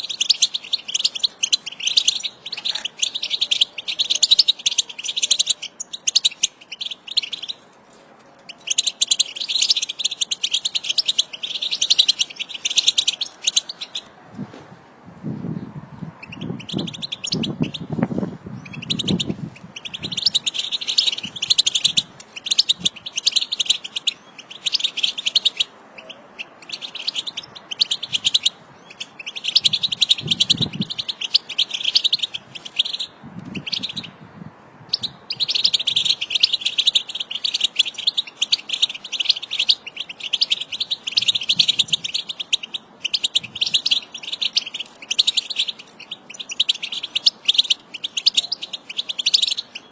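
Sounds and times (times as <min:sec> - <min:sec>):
goldfinches twittering: 0:00.0 - 0:07.6, 0:08.6 - 0:14.1, 0:16.2 - 0:17.9, 0:18.6 - 0:34.1, 0:34.9 - 0:49.9.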